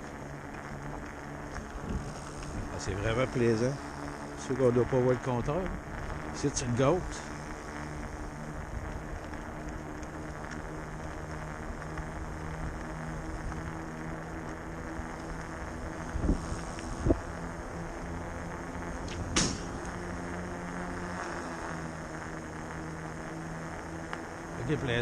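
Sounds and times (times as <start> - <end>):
electric bike motor hum: 0.0 - 25.0
wind: 0.0 - 25.0.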